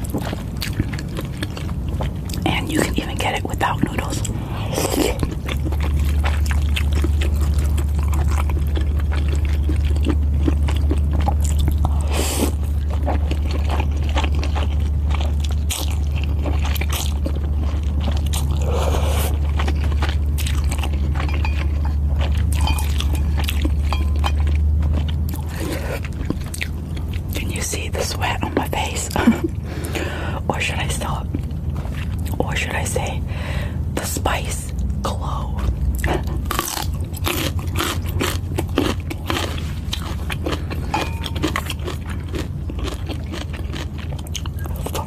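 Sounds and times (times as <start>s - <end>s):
chewing with wet clicks and crunches: 0.0s - 45.0s
steady low hum: 0.0s - 45.0s.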